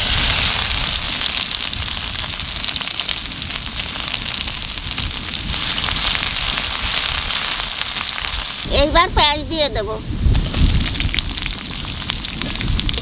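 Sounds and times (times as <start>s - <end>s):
paste frying with crackling pops: 0.0s - 9.4s, 10.2s - 13.0s.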